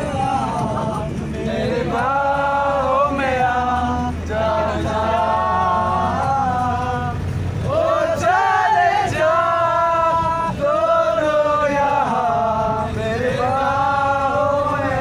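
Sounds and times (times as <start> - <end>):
men singing in unison: 0.0 - 15.0.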